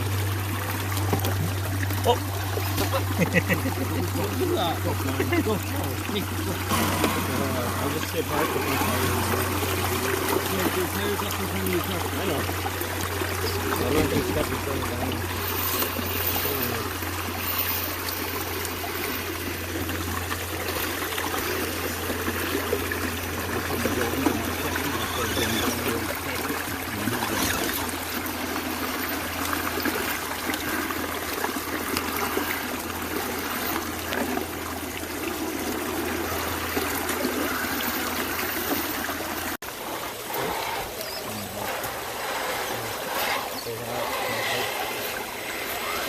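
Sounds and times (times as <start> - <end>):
stream trickling: 0.0 - 46.0.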